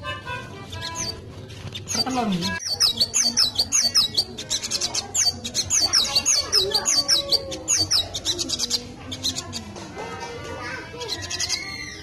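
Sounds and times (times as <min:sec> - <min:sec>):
small bird singing high chirps: 0:00.7 - 0:09.7, 0:10.9 - 0:12.0.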